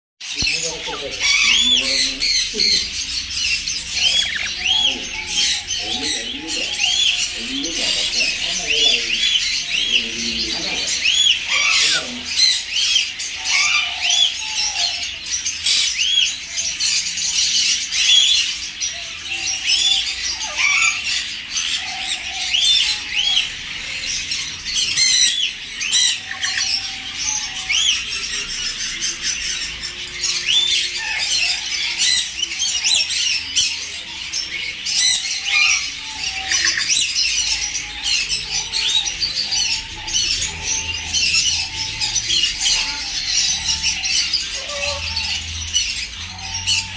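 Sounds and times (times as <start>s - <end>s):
caged birds chirping and squawking: 0.2s - 46.9s.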